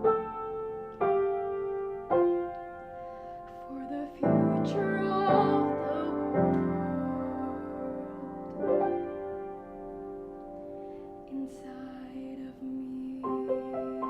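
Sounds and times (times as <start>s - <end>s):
piano slow notes and chords: 0.0s - 14.0s.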